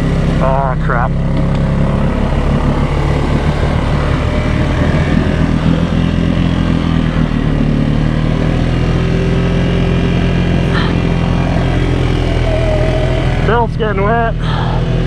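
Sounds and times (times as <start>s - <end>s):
quad churning through mud: 0.0s - 13.7s
atv engine running under load: 0.0s - 15.0s.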